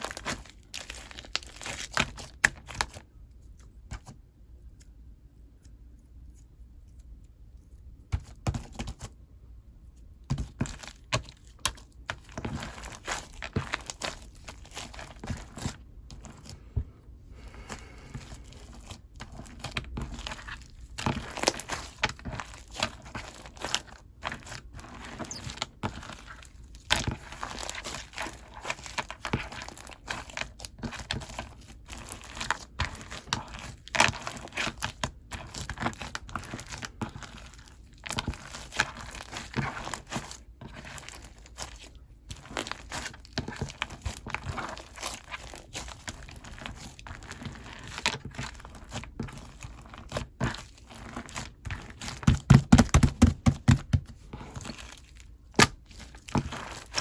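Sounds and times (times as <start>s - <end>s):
slime squishing and crackling: 0.0s - 3.1s, 10.3s - 16.6s, 17.7s - 57.0s.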